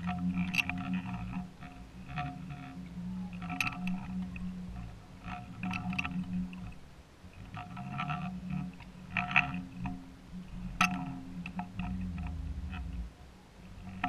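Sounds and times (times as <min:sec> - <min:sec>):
underwater low hum: 0:00.0 - 0:14.0.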